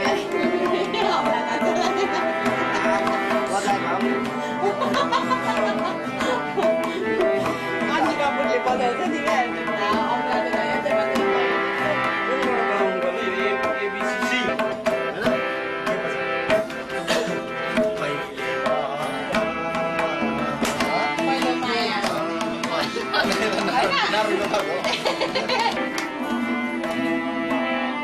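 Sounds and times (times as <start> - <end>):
tabla strokes: 0.0 - 27.1
harmonium chords: 0.0 - 28.0.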